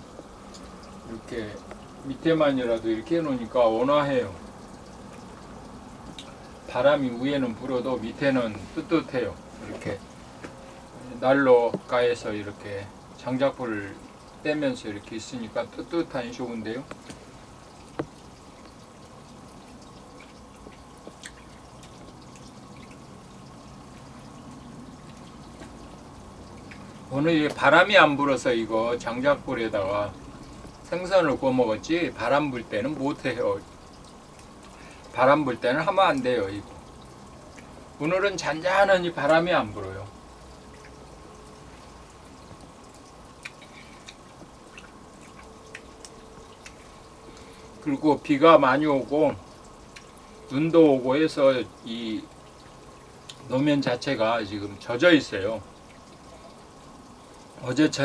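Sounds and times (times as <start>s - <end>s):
light rain patter: 0.0s - 58.0s
water dripping: 0.0s - 58.0s.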